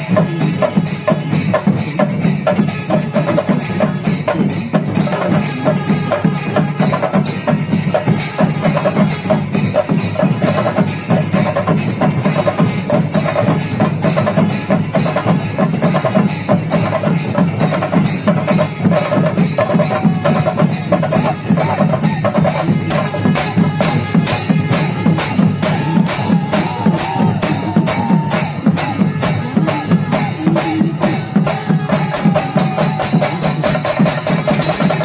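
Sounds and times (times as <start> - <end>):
drums beating: 0.0 - 35.0
small cymbals: 0.0 - 35.0.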